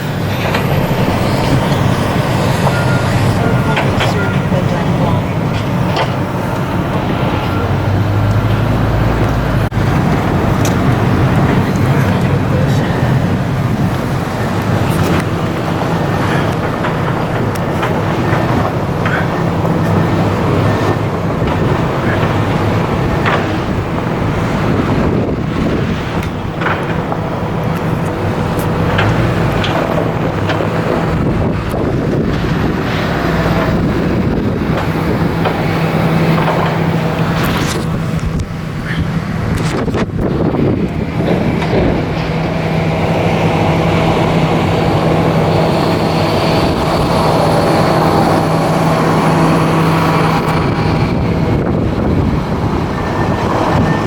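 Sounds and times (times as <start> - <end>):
car road and engine noise: 0.0 - 54.0
wind buffeting microphone: 0.0 - 54.0.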